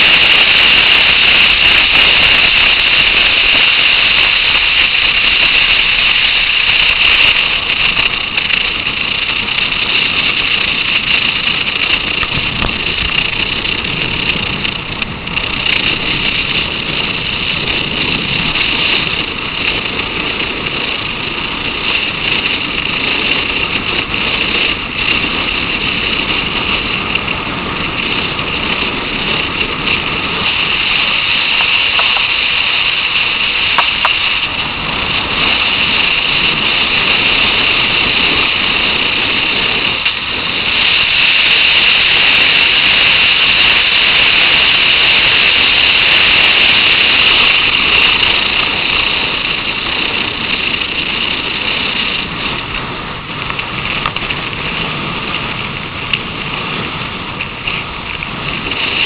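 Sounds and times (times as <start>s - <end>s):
motorcycle engine: 0.0s - 59.0s
wind and road noise: 0.0s - 59.0s.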